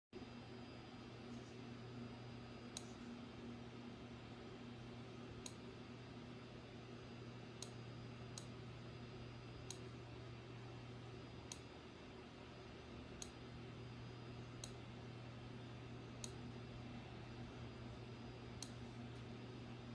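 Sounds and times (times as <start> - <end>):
low steady hum: 0.2 - 19.9.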